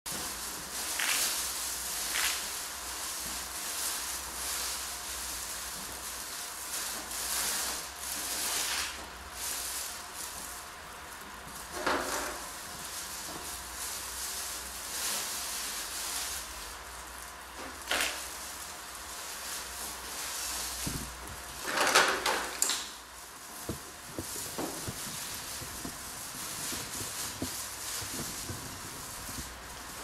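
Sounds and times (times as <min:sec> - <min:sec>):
plastic crinkling and rustling: 0:00.1 - 0:30.0.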